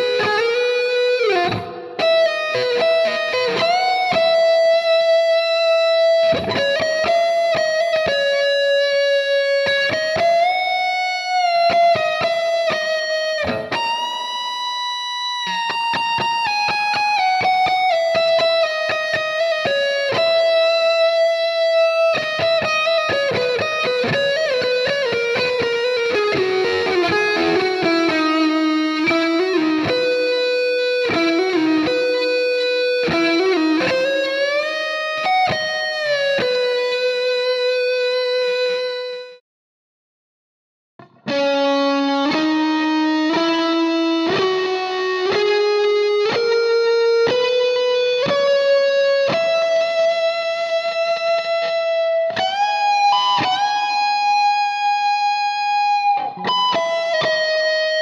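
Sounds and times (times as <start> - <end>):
electric guitar solo with bends: 0.0 - 39.4, 41.0 - 58.0.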